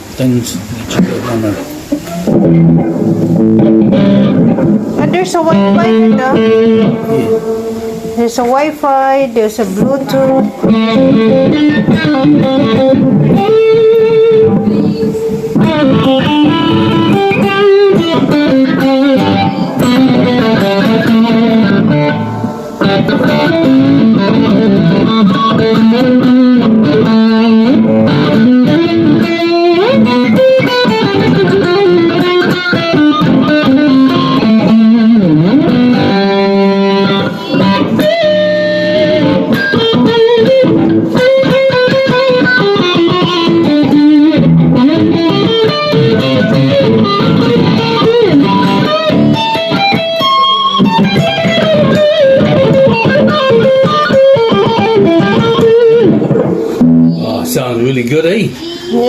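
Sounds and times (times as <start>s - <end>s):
electric guitar melody: 0.0s - 59.0s.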